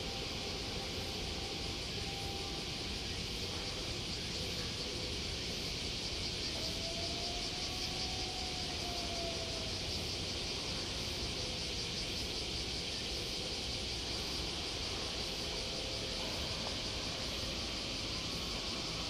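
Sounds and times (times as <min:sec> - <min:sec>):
continuous high hiss: 0:00.0 - 0:19.0.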